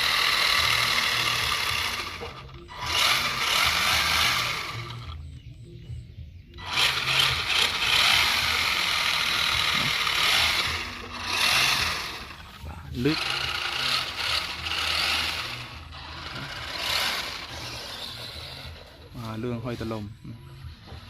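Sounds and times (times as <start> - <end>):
electric toy car motor running: 0.0 - 5.5, 6.5 - 20.0, 20.6 - 21.0.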